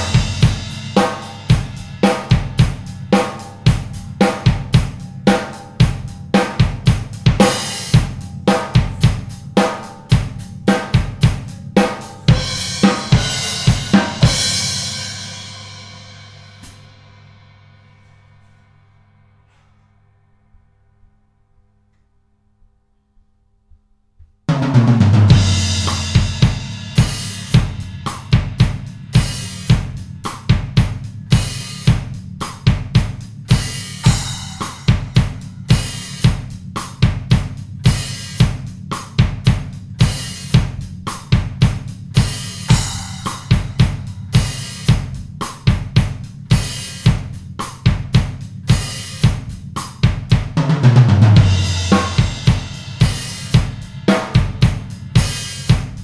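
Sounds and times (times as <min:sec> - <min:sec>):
drum kit rock beat: 0:00.0 - 0:17.5, 0:24.5 - 0:56.0
cymbal crashes: 0:00.0 - 0:20.0, 0:25.0 - 0:56.0.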